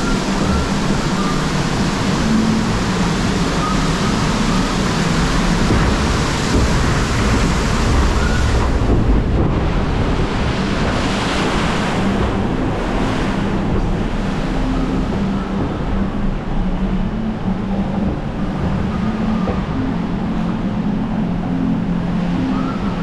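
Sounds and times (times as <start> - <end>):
water rushing and splashing: 0.0 - 23.0
wind buffeting microphone: 0.0 - 23.0.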